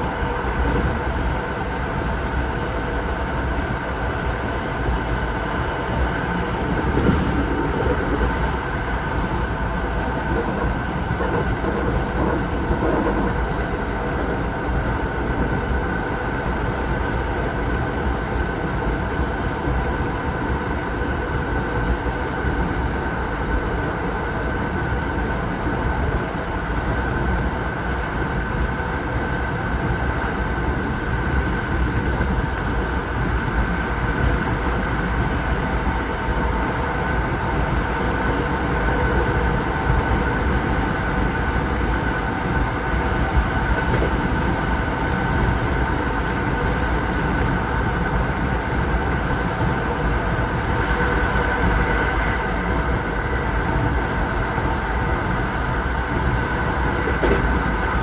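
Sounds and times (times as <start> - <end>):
constant high hum: 0.0 - 58.0
train wheels rumbling on track: 0.0 - 58.0.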